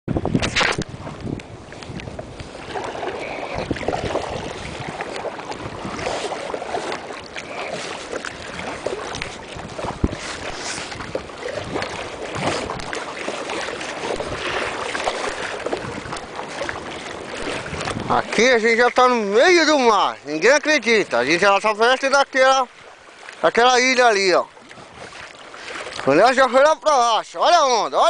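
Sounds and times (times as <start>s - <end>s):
wind buffeting microphone: 0.1s - 22.9s, 23.5s - 27.9s
knocks and clatter of boat gear: 0.1s - 27.8s
water slapping against boat: 0.1s - 28.0s.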